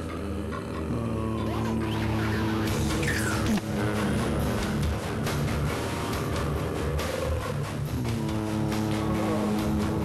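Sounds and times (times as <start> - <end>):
background music with sustained tones: 0.0 - 10.0.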